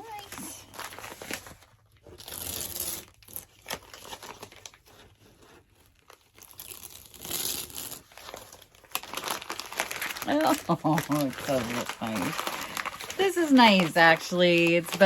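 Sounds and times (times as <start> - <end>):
tape peeling and crinkling: 0.2 - 15.0.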